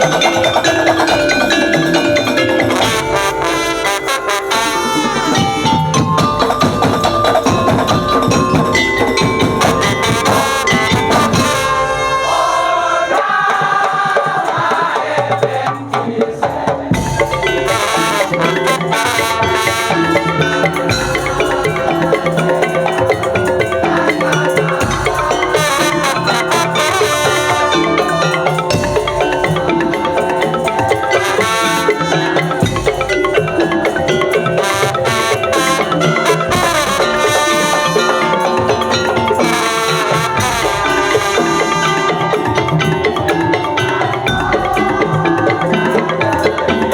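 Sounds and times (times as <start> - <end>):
drums: 0.0 - 46.9
mallet-struck tuned percussion: 0.0 - 46.9.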